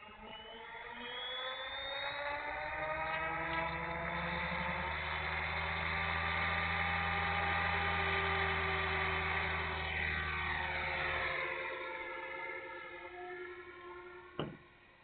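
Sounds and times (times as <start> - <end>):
rc helicopter motor whining: 0.0 - 14.8.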